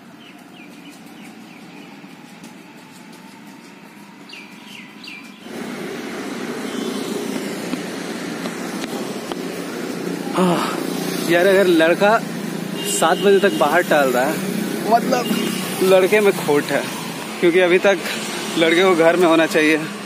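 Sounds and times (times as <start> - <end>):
birds chirping: 0.0 - 19.6
roadside traffic noise: 0.0 - 20.0.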